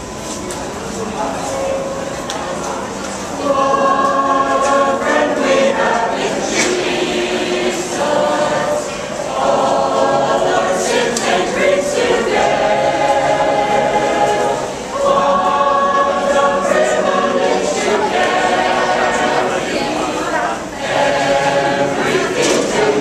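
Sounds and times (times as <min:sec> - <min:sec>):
mixed choir singing unaccompanied: 0:01.0 - 0:23.0.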